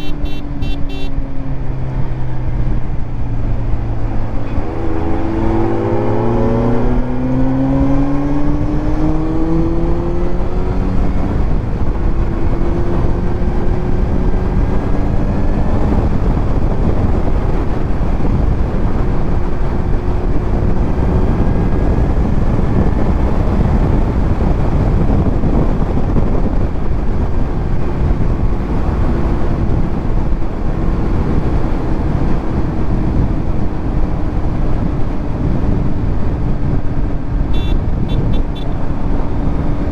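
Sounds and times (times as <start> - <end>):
motorcycle engine revving: 0.0 - 2.3, 3.4 - 39.9
road and wind rush: 0.0 - 39.9.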